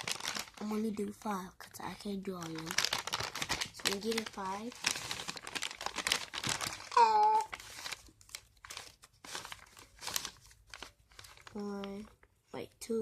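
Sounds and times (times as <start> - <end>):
wrappers crinkling: 0.0 - 1.2, 1.8 - 12.3.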